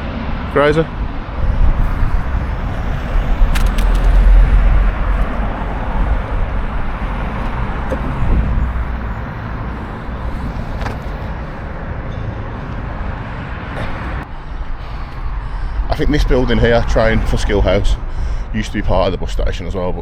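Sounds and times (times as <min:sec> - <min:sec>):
low vehicle rumble: 0:00.0 - 0:19.5.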